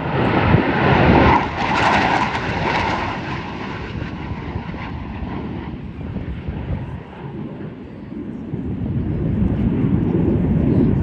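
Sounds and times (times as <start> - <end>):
jet flying past: 0.0 - 11.0.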